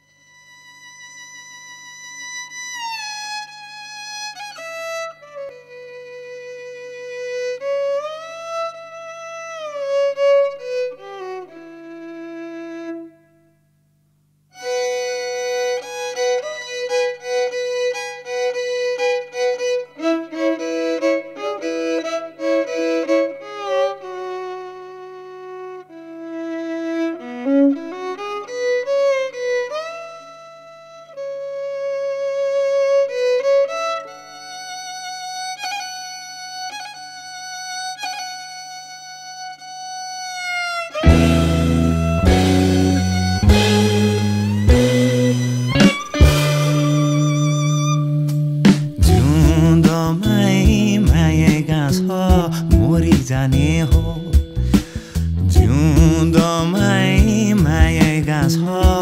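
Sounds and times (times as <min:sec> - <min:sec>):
violin slow melody: 0:00.0 - 0:13.7, 0:14.5 - 0:59.0.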